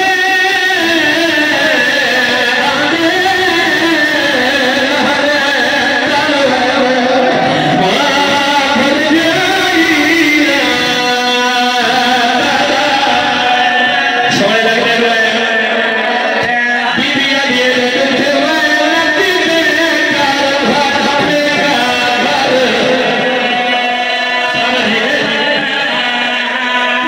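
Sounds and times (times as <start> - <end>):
man chanting through microphone: 0.0 - 27.0.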